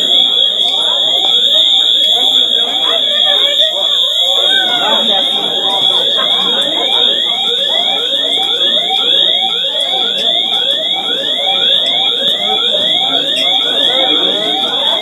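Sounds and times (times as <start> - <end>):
fire alarm sounding: 0.0 - 15.0.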